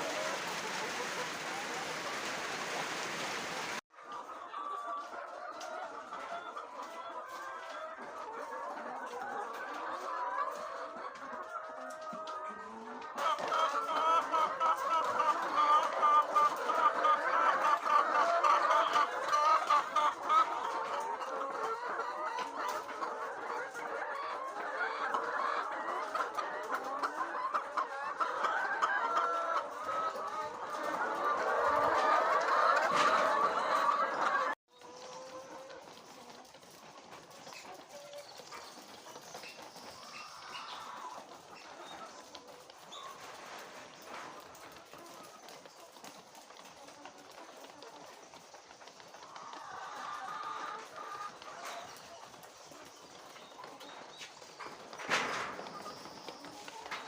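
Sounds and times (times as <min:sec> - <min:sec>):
hens clucking: 0:00.0 - 0:57.0.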